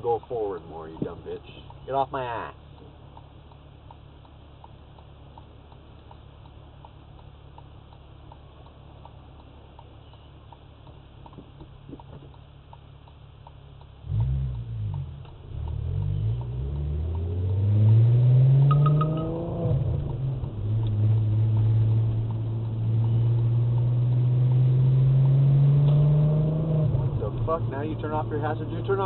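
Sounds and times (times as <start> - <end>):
soft regular ticking: 0.0 - 17.6, 18.6 - 25.4, 26.9 - 29.0
car engine accelerating: 4.9 - 29.0.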